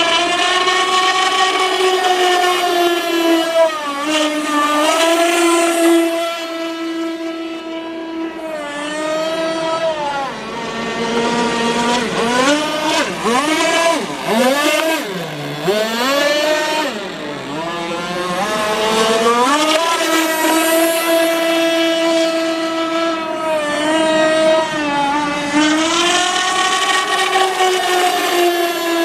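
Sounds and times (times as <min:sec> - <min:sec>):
rc boat engine at high speed: 0:00.0 - 0:29.0.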